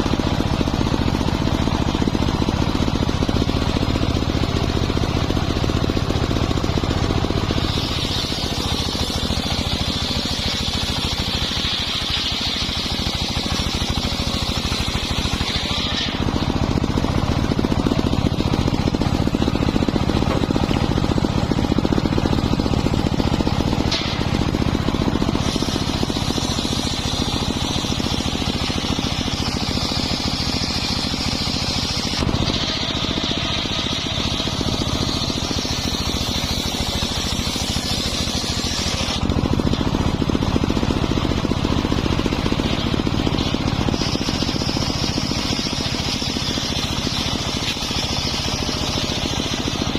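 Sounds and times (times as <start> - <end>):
circular saw whining cutting wood: 0.0 - 49.9
pulsing power unit drone: 0.0 - 49.9.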